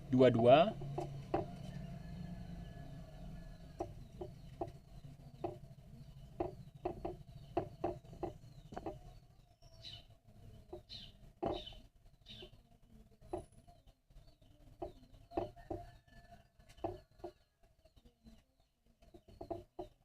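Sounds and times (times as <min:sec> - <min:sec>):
faint bird chirps: 0:01.5 - 0:20.0.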